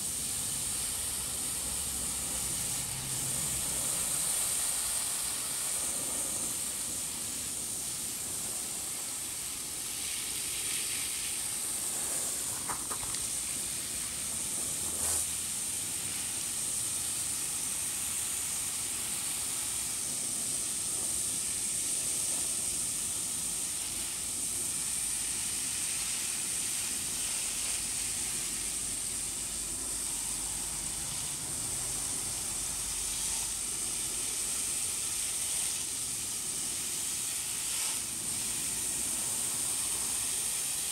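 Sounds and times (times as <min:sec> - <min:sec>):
garden hose spraying water: 0:00.0 - 0:40.9.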